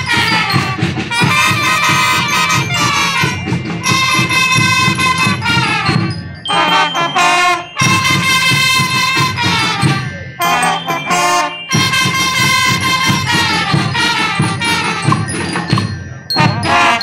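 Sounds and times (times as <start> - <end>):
brass band chords: 0.0 - 17.0
drum beat: 0.0 - 17.0.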